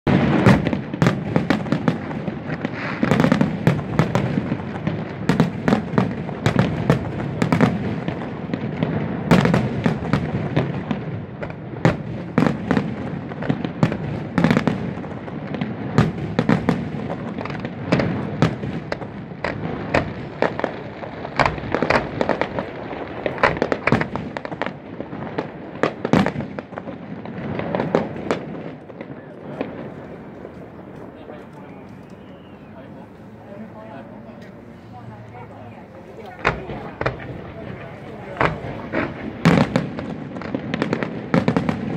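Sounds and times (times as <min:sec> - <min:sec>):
firework shells bursting: 0:00.1 - 0:32.7, 0:36.2 - 0:41.9.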